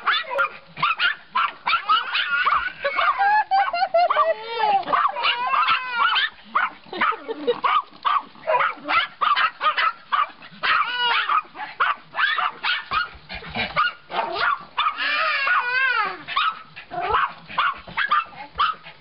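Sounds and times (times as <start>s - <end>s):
dogs whining: 0.0s - 13.1s, 13.7s - 18.8s
small dogs barking: 0.0s - 19.0s.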